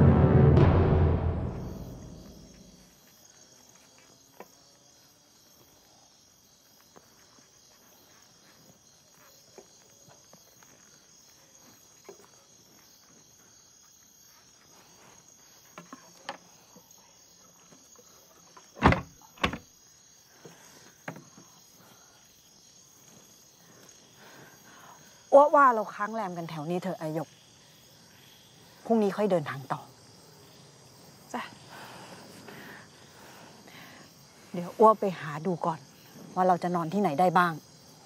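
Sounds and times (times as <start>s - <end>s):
crickets chirring: 1.1s - 38.0s.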